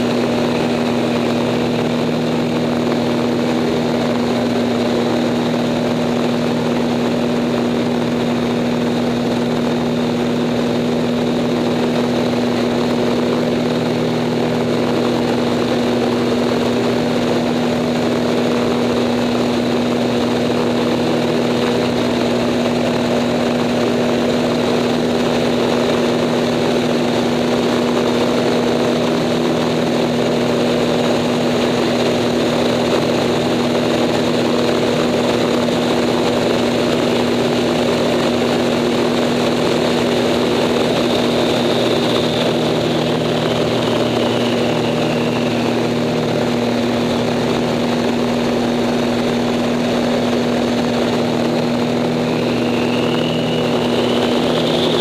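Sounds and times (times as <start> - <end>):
plane engine and propeller: 0.0 - 55.0.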